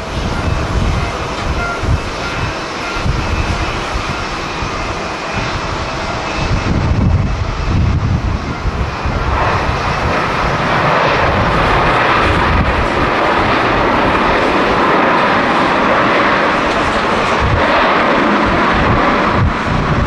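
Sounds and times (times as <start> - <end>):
jet engines in reverse thrust: 0.0 - 20.0
wind buffeting microphone: 0.0 - 20.0.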